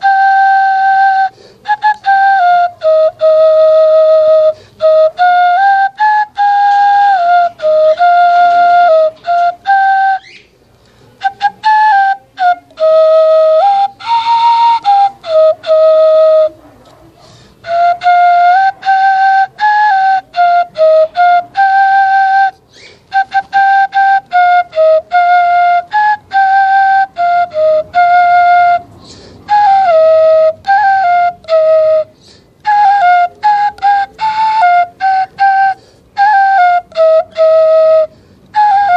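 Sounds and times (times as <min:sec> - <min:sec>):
bamboo flute playing slow melody: 0:00.0 - 0:16.9, 0:17.6 - 0:38.9.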